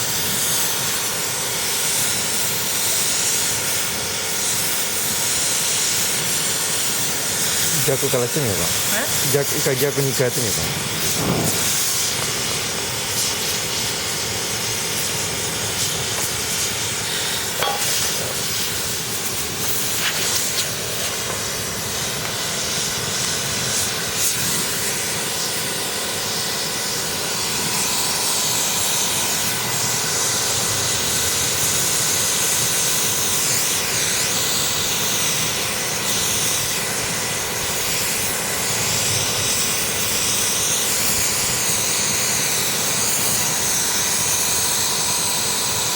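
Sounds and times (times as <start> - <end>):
hiss of air through exhaust: 0.0 - 45.9.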